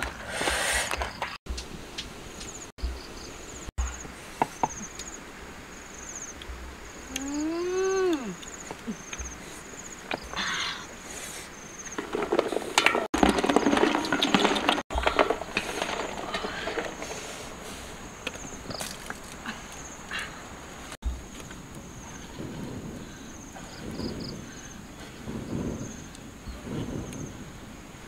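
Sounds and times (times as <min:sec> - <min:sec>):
insects chirping: 0:00.9 - 0:14.0, 0:14.9 - 0:28.0.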